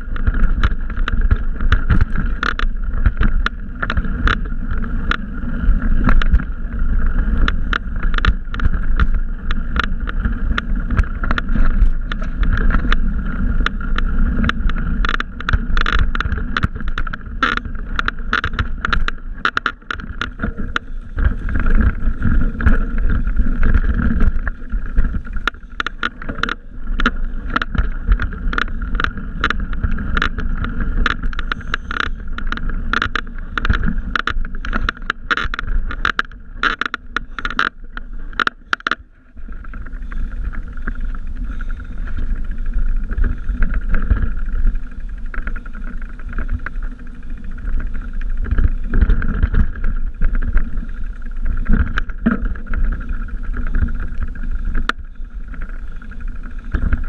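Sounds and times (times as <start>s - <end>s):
bicycle rattling over dirt trail: 0.0s - 57.0s
wind rumble on microphone: 0.0s - 57.0s.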